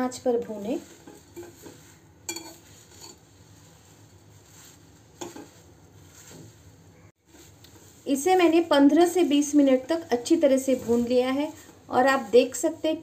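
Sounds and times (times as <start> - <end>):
metal scraping on pan: 0.0 - 13.0
spatula stirring in a pan: 0.0 - 13.0.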